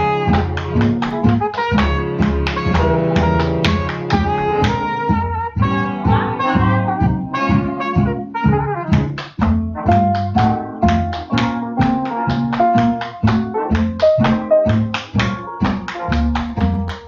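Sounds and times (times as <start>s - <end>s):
swing jazz band playing: 0.0s - 17.0s.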